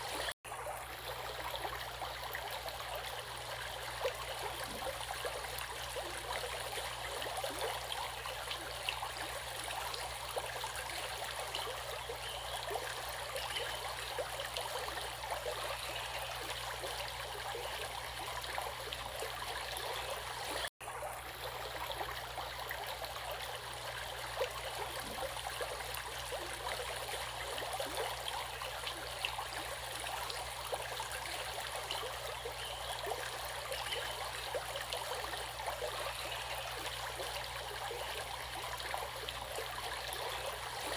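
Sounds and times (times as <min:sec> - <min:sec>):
stream bubbling over stones: 0:00.0 - 0:40.9.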